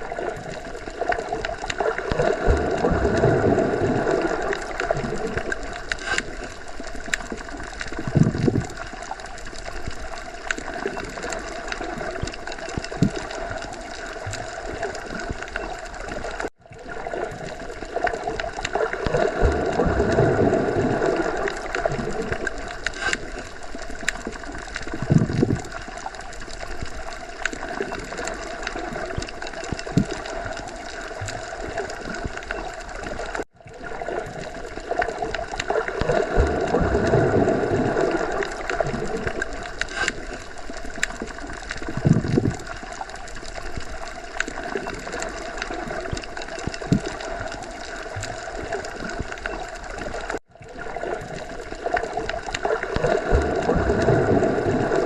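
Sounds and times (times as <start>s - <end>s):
underwater water wash: 0.0s - 55.0s
water gurgling and bubbling: 0.0s - 55.0s.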